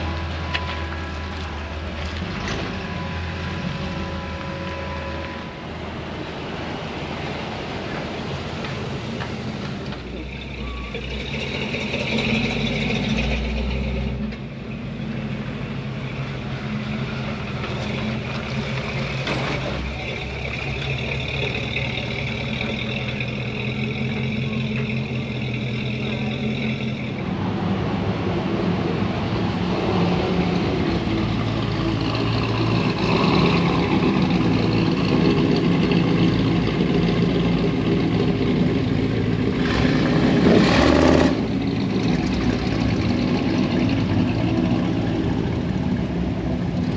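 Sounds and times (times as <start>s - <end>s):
truck engines running: 0.0s - 46.9s.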